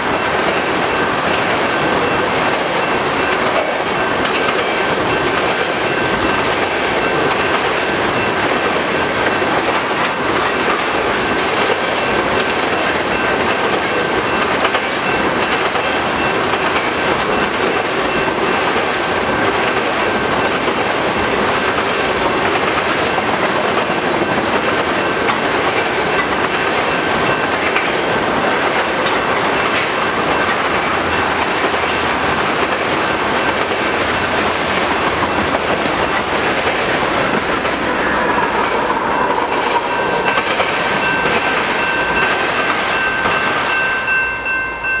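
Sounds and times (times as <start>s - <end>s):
train cars rolling past: 0.0s - 45.0s.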